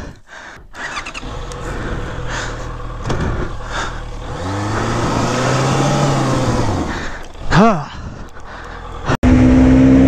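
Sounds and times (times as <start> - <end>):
motorcycle engine revving: 0.8 - 7.8, 8.6 - 10.0.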